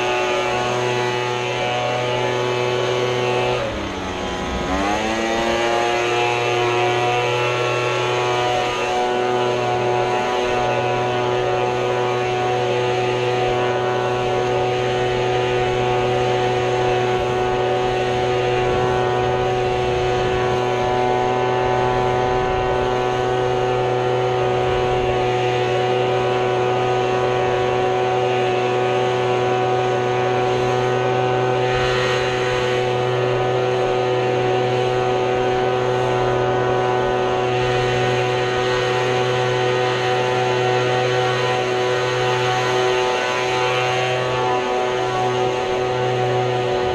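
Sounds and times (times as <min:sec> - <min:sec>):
small engine running at full throttle: 0:00.0 - 0:46.9.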